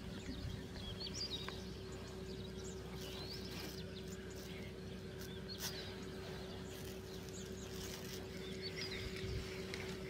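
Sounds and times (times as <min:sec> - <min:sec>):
faint bird chirps: 0:00.0 - 0:10.0
steady hum: 0:00.0 - 0:10.0.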